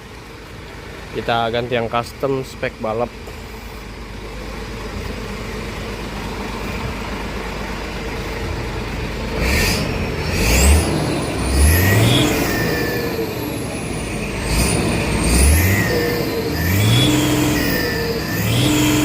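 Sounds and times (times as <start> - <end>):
diesel truck engine revving: 0.0 - 19.0.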